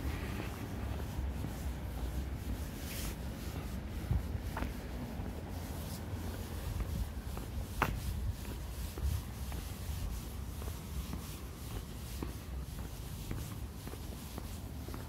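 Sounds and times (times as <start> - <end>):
wind rumble on microphone: 0.0 - 14.0
faint scuffing and rubbing: 0.0 - 15.0.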